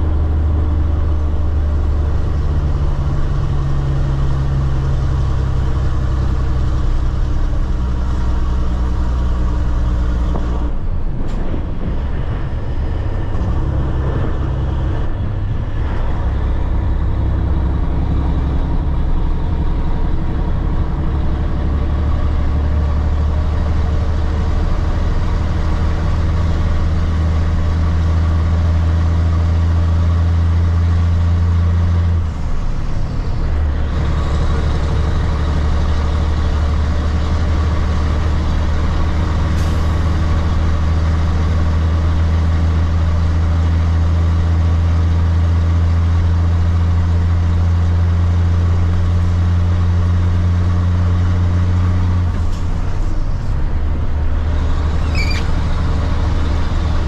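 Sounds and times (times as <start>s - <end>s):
diesel truck engine under load: 0.0s - 57.0s.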